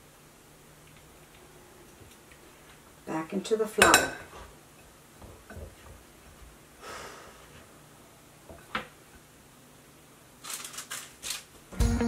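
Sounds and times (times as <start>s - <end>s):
quiet room hum: 0.0s - 12.0s.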